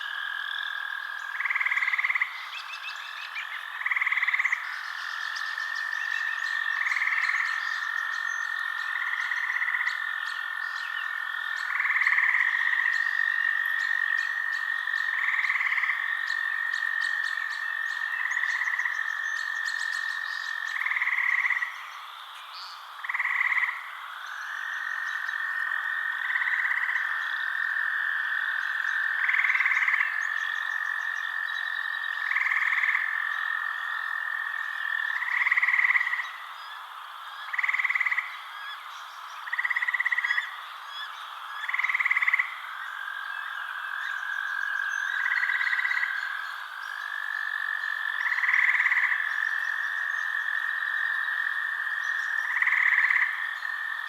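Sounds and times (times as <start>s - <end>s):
frog chorus trilling: 0.0s - 54.0s.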